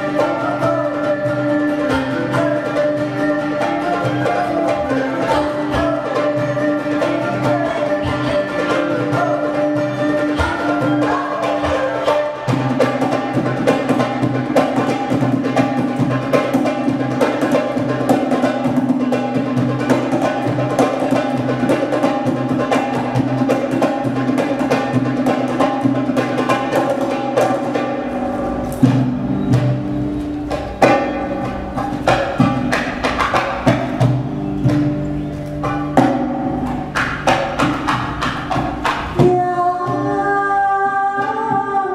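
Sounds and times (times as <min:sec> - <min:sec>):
hand percussion patter: 0:00.0 - 0:41.9.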